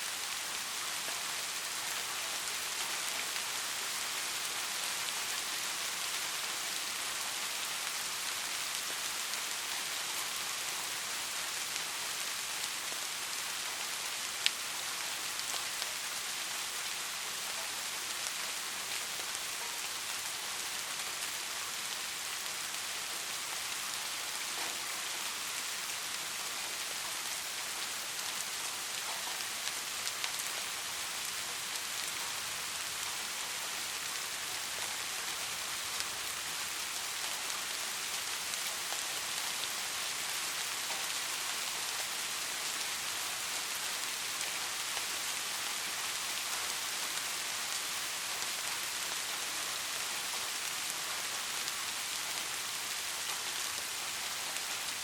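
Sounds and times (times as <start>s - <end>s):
soft rainfall: 0.0s - 55.0s.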